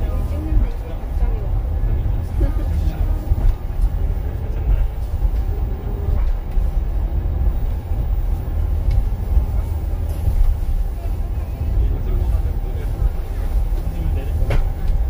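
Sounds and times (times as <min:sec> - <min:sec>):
monorail car rumbling: 0:00.0 - 0:15.0.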